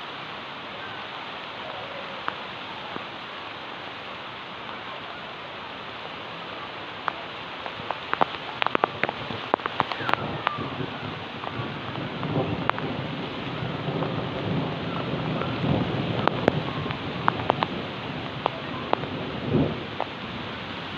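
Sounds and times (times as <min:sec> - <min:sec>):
steady rain hiss: 0:00.0 - 0:20.9.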